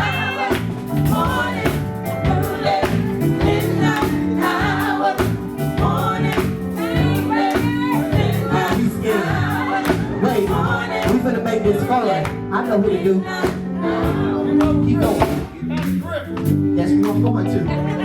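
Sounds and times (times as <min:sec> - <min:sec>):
steady drum beat: 0:00.0 - 0:12.5, 0:13.3 - 0:17.2
gospel voices singing over a band: 0:00.0 - 0:18.0.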